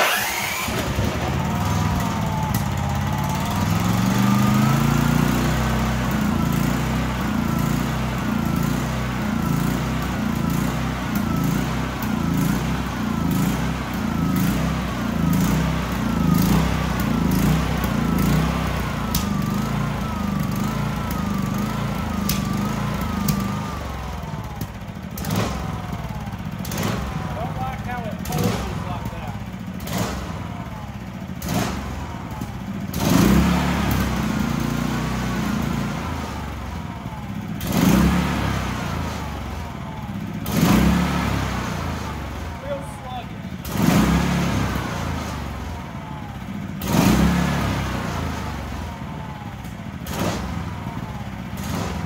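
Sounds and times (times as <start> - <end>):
small engine running: 0.0 - 52.0.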